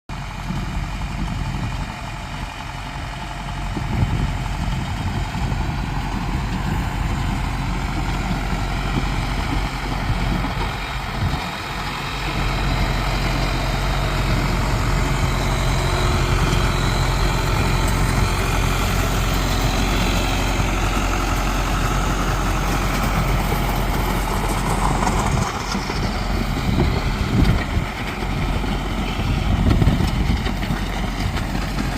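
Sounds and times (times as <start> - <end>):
tractor diesel engine running: 0.1 - 31.9.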